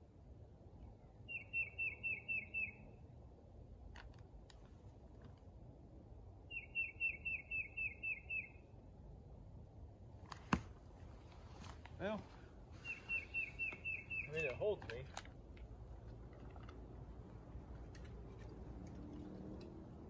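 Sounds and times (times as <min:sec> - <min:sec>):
songbird chirping: 0:00.6 - 0:05.6, 0:06.2 - 0:08.9, 0:10.3 - 0:20.0.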